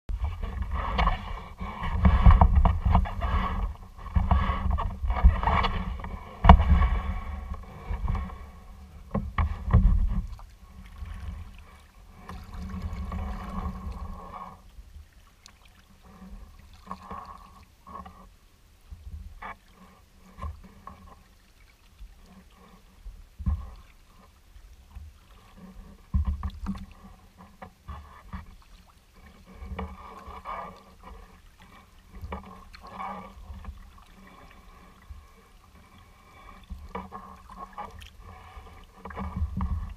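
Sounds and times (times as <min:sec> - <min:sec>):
water splashing against kayak hull: 0:00.1 - 0:39.9.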